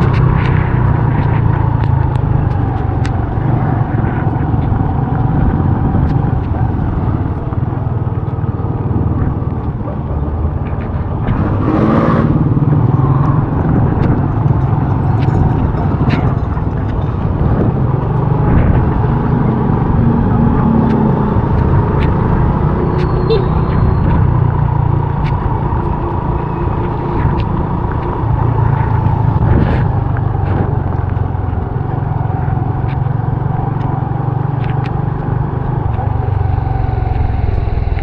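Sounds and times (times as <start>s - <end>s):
motorcycle engine running: 0.0s - 38.0s
wind and road noise: 0.0s - 38.0s.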